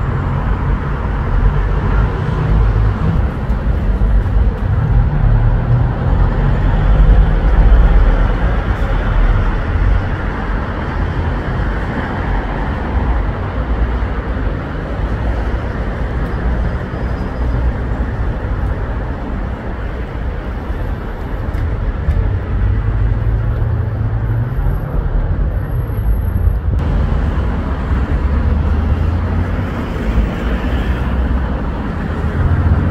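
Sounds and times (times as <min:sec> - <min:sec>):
bus passing: 0:00.0 - 0:32.9
rumble of passing cars: 0:00.0 - 0:32.9.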